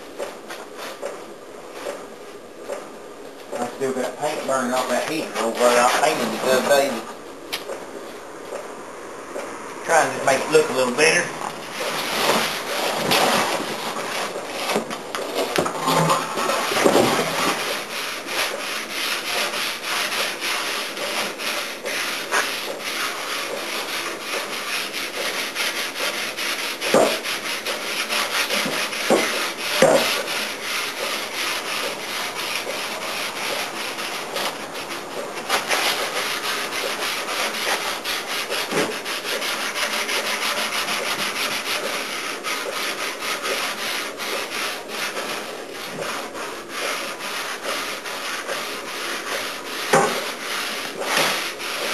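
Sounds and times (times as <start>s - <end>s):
sandpaper scrubbing metal panel: 3.6s - 7.1s, 9.9s - 51.9s.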